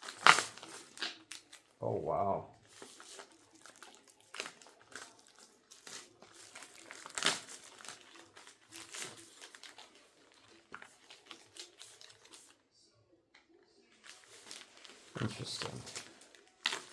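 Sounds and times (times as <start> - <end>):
packaging crinkling: 0.0 - 1.8, 2.6 - 12.6, 14.0 - 16.9.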